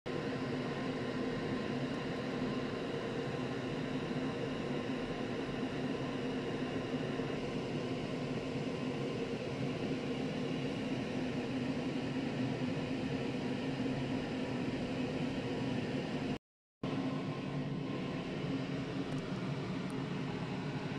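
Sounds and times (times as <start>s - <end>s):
droning hum with hiss: 0.1s - 20.9s.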